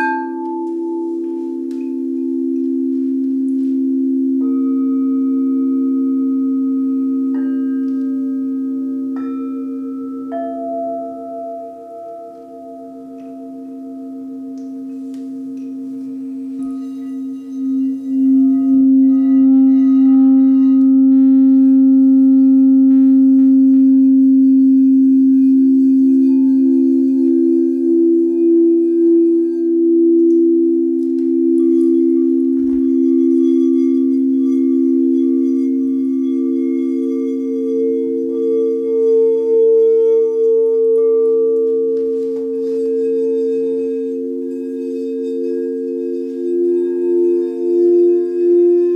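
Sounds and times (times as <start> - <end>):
crystal singing bowls ringing: 0.0 - 48.9.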